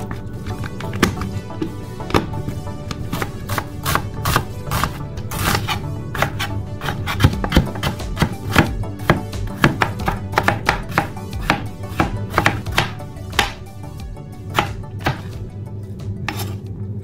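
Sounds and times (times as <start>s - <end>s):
knife chopping on cutting board: 0.0s - 13.6s, 14.5s - 15.4s, 16.2s - 16.6s.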